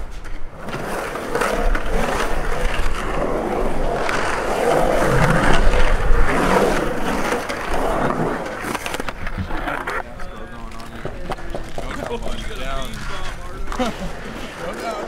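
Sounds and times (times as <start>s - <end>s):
skateboard wheels rumbling on concrete: 0.0s - 15.0s.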